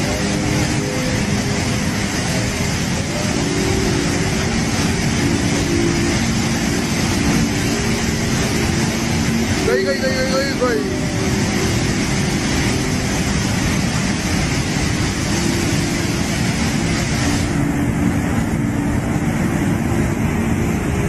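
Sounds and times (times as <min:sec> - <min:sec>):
rushing flood torrent roar: 0:00.0 - 0:21.0.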